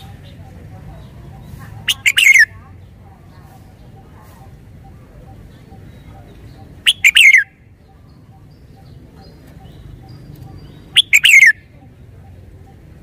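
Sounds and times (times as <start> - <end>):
bulbul singing: 0.0 - 13.0.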